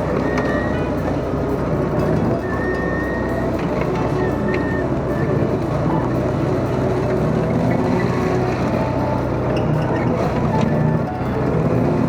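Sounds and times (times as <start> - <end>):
background music: 0.0 - 12.0
excavator engine running: 0.0 - 12.0.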